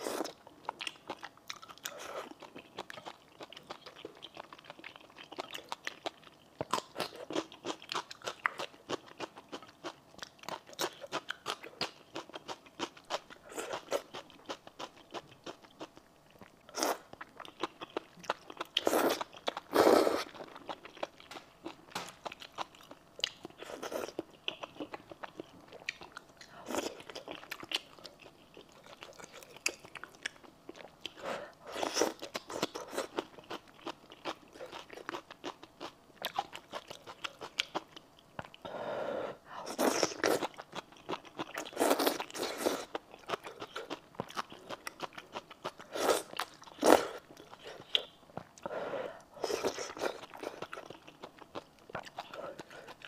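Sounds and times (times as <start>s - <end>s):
wet chewing of noodles: 0.0s - 39.0s, 39.6s - 53.0s.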